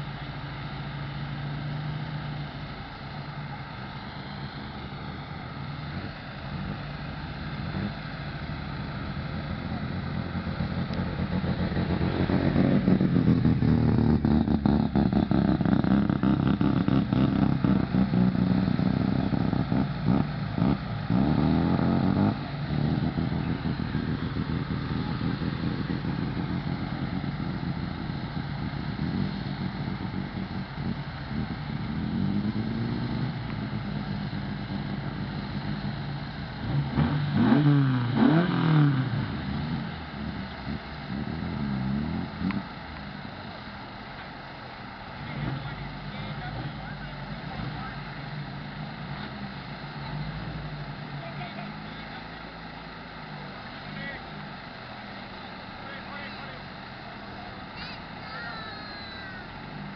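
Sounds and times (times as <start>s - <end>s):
car engines running: 0.0s - 59.9s
engine throttle blips: 0.0s - 59.9s.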